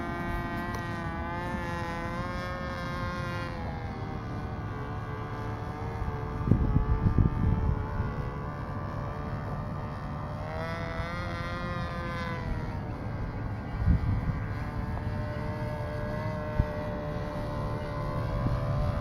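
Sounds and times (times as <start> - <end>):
model plane engine buzzing: 0.0 - 19.0.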